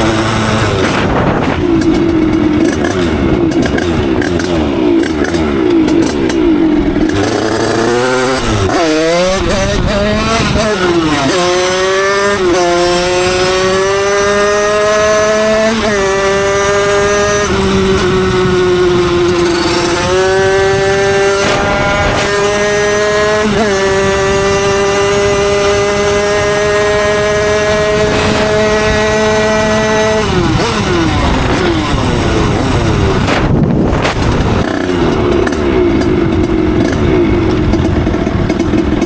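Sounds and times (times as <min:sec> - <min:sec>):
two-stroke engine at high revs: 0:00.0 - 0:39.0.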